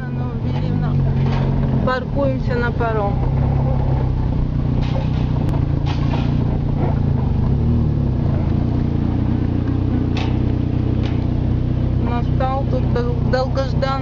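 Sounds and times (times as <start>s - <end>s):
vehicle engines humming: 0.0s - 14.0s.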